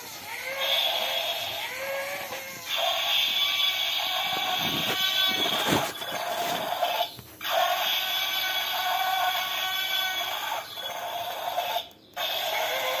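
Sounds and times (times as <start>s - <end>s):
toy electronic pitched tone: 0.0s - 13.0s.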